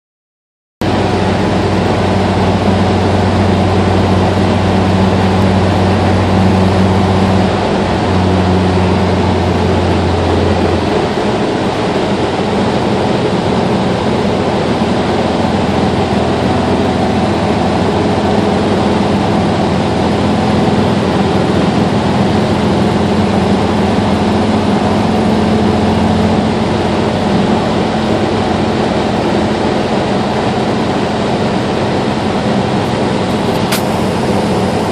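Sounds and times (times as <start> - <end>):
dense rushing noise: 0.8 - 34.9
low hum: 0.8 - 34.9
vehicle engine running: 0.8 - 34.9.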